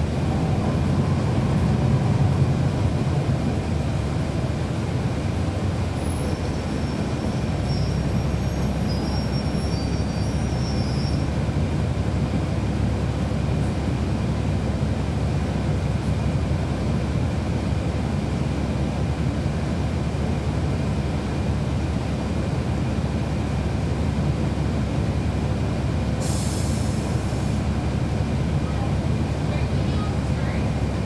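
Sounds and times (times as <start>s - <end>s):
bus cabin low rumble: 0.0s - 31.0s.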